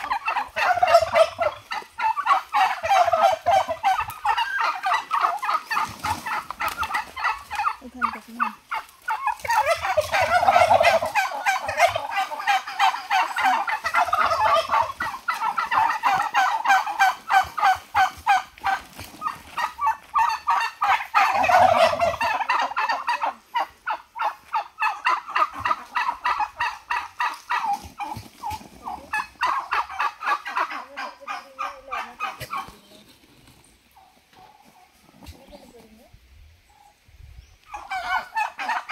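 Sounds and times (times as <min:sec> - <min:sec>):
turkeys gobbling: 0:00.0 - 0:37.0, 0:37.6 - 0:38.9.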